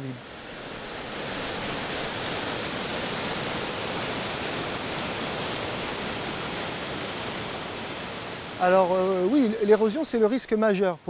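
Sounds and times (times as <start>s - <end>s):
water gushing from dam outlet: 0.0s - 11.0s.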